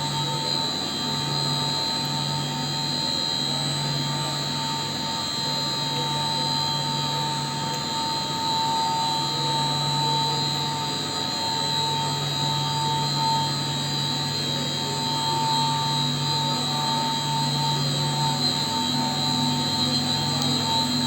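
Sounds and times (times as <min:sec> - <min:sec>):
high steady whine: 0:00.0 - 0:21.0.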